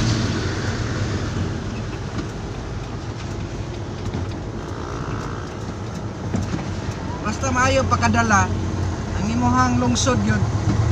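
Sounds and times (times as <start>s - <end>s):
truck engine drone and road noise: 0.0s - 10.9s.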